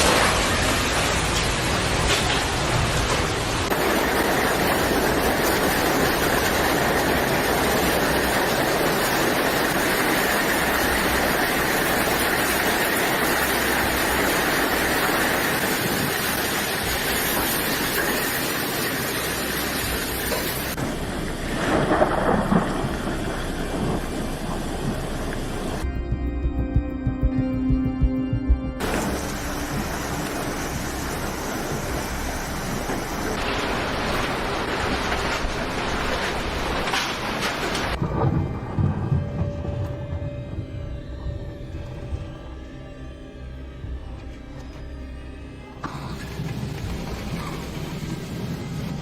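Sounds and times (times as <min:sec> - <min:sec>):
heavy rain pouring: 0:00.0 - 0:25.9, 0:28.8 - 0:42.2, 0:45.8 - 0:49.0.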